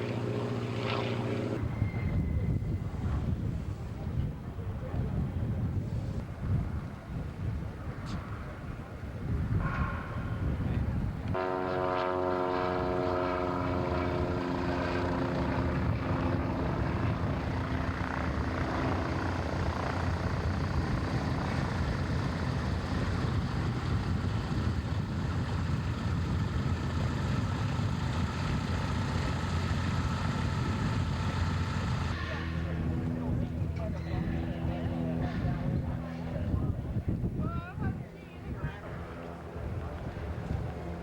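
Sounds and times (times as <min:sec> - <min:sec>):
propeller aircraft engine running: 0:00.0 - 0:41.0.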